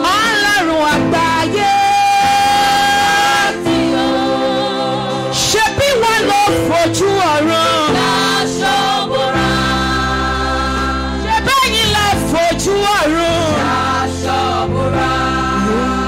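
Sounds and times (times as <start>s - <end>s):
sustained backing chords: 0.0s - 16.0s
woman singing gospel song: 0.0s - 16.0s.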